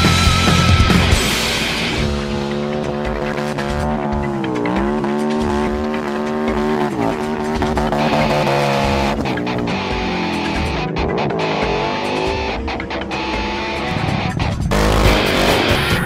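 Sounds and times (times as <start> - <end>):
car engine revving: 0.0 - 16.0
music: 0.0 - 16.0.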